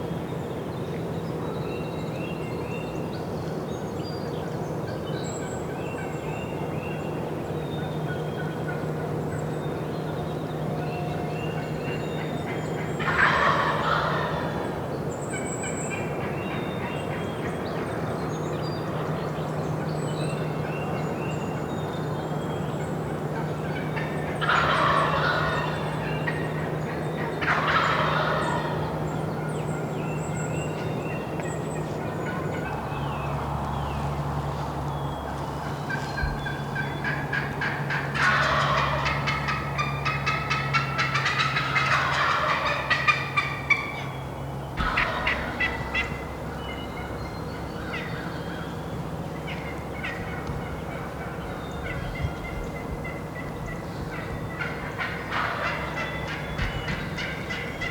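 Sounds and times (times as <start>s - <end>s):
steady low hum: 2.9s - 57.9s
turkeys gobbling: 8.0s - 9.9s, 11.1s - 33.4s, 34.0s - 57.9s.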